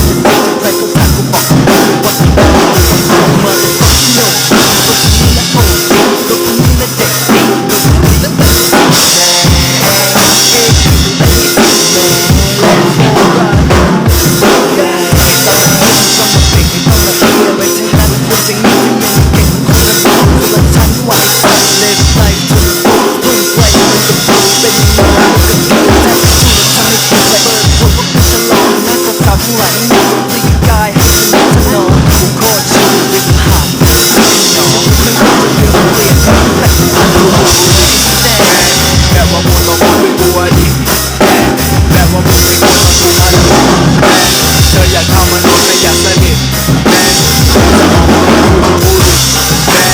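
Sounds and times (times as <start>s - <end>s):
bass line: 0.0s - 49.9s
rock drum beat: 0.0s - 49.9s.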